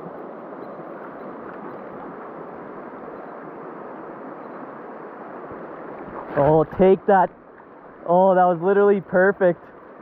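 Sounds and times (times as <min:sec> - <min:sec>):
stream rushing over cobbles: 0:00.0 - 0:10.0.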